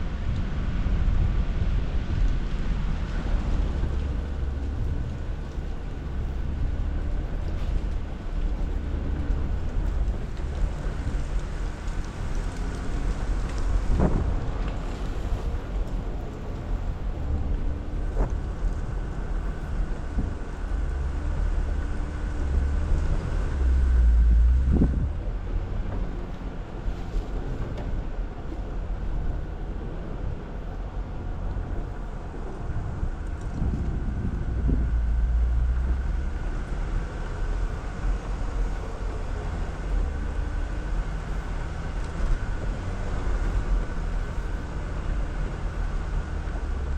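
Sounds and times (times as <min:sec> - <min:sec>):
road noise: 0:00.0 - 0:46.9
tyre and wind noise: 0:00.0 - 0:46.9
vehicle engine rumble: 0:00.0 - 0:46.9.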